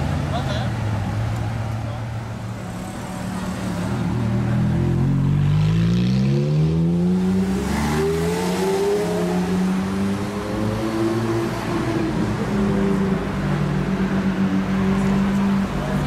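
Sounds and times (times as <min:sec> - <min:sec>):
car engine revving: 0:02.7 - 0:16.0.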